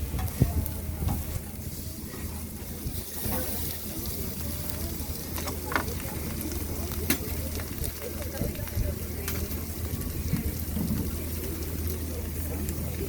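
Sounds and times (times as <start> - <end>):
faint crowd chatter: 0.0 - 13.0
food sizzling on grill: 0.0 - 13.0.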